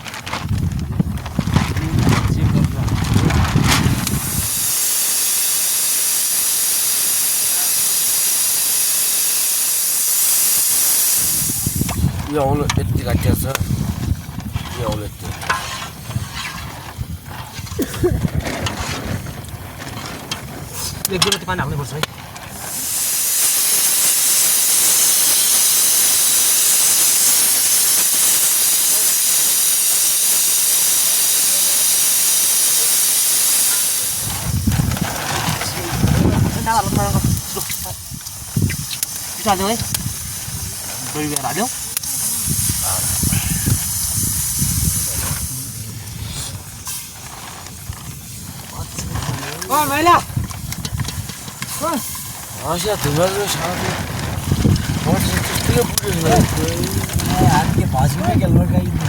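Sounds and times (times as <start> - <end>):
high-pitched hiss: 3.8 - 17.1, 20.7 - 58.5
water sizzling in hot pan: 3.9 - 45.7, 46.7 - 58.3.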